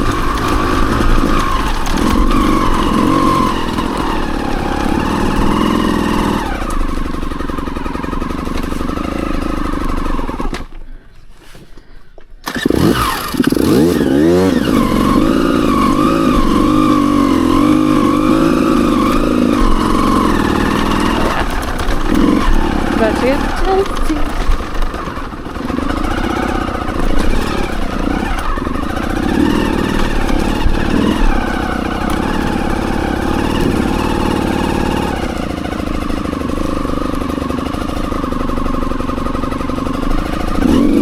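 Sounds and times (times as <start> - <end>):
dirt bike engine revving: 0.0 - 10.7, 12.4 - 41.0.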